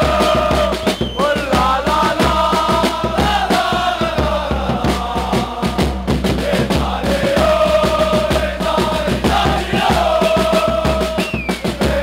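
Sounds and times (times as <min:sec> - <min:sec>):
crowd singing a chant: 0:00.0 - 0:12.0
steady drum beat: 0:00.0 - 0:12.0.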